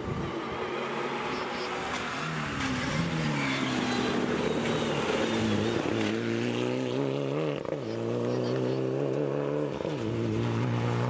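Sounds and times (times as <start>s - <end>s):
rally car engine high revs: 1.3s - 11.0s.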